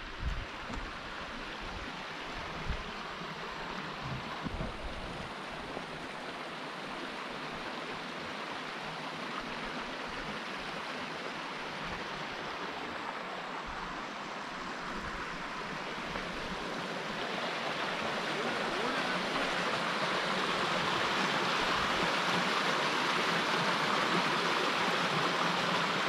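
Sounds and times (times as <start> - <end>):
water running over rocks: 0.0 - 26.0.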